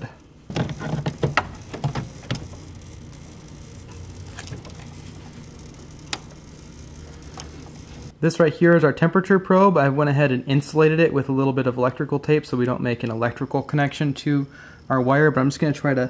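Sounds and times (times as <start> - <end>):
low electrical buzz: 0.0 - 16.0.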